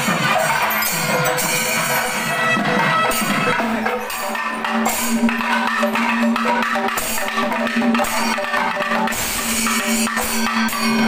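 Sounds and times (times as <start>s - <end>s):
fast drumming and percussion: 0.0s - 11.0s.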